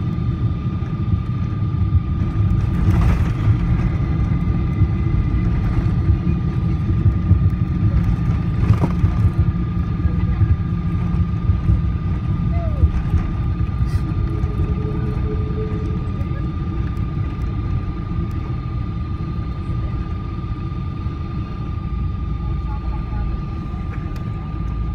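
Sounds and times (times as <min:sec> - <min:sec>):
airliner cabin rumble: 0:00.0 - 0:24.9
faint whine: 0:00.0 - 0:24.9.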